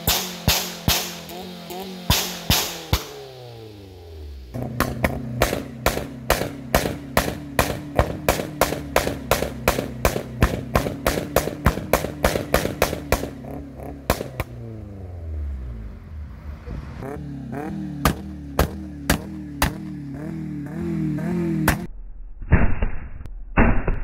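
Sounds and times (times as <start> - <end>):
car engine at rev limiter: 0.0 - 21.9
exhaust banging: 0.0 - 21.9.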